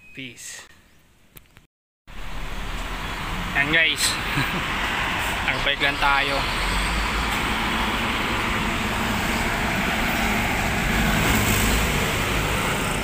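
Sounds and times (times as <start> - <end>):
road traffic noise: 2.1 - 13.0.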